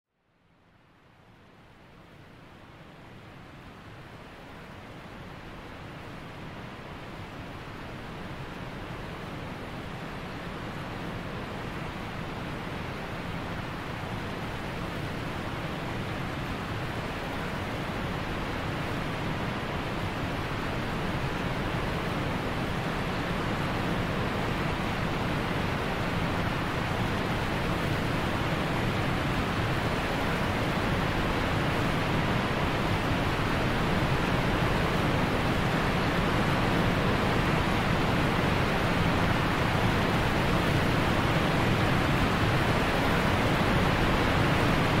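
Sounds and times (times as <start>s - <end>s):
rushing water: 1.1s - 45.0s.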